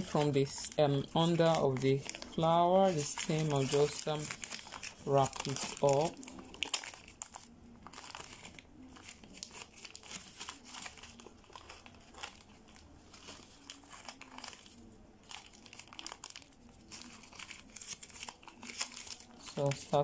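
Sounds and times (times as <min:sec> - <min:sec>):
plastic ribbon crinkling: 0:00.0 - 0:20.0.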